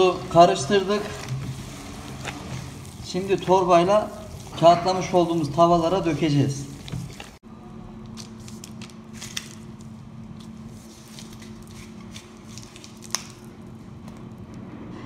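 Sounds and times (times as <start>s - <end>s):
dough squishing from piping bag: 0.0s - 7.4s, 8.1s - 14.6s.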